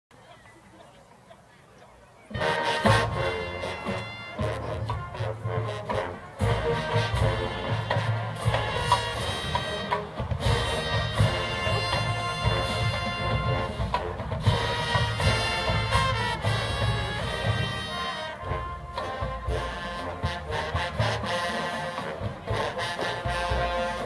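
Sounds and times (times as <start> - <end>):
brass playing a tune: 2.3 - 24.0
steady drum beat: 2.4 - 24.0.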